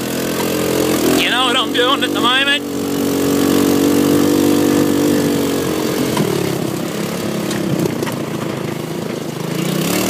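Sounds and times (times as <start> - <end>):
buggy engine running: 0.0 - 10.0.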